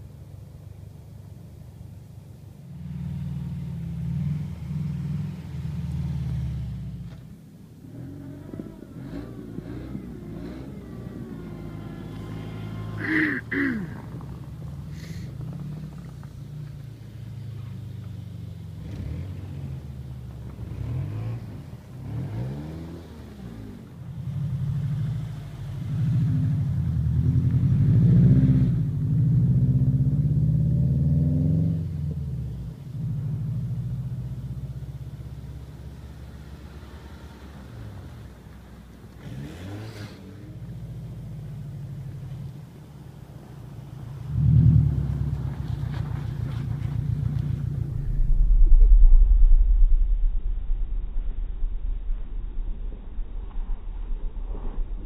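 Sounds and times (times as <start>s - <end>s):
car engines revving: 0.0s - 48.8s.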